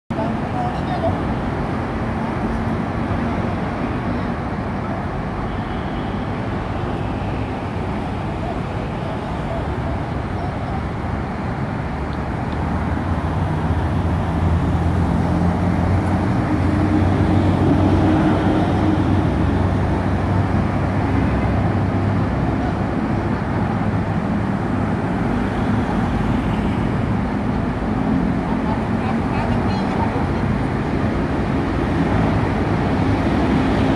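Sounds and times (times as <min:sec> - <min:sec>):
traffic rumble: 0:00.1 - 0:33.9.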